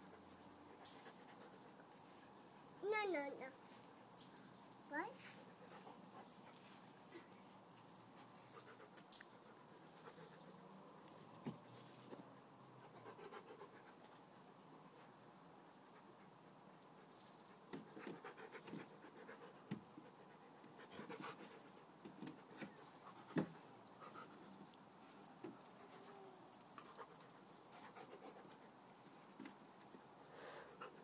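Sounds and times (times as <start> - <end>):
puppies panting and scuffling: 0.0 - 31.0.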